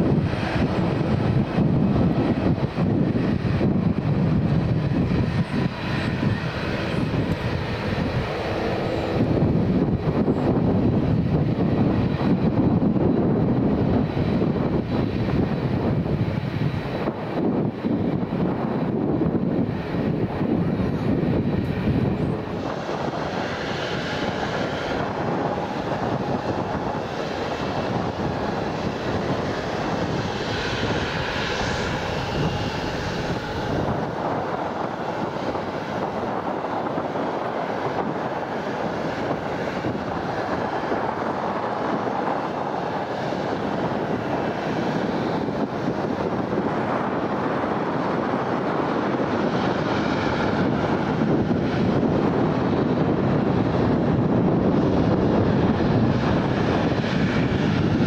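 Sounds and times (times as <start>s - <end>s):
jet engines at high thrust: 0.0s - 58.0s.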